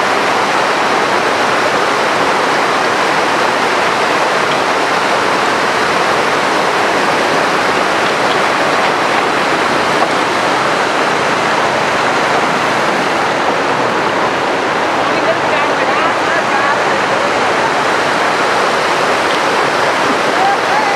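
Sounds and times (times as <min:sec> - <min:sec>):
river rushing over rocks: 0:00.0 - 0:20.9.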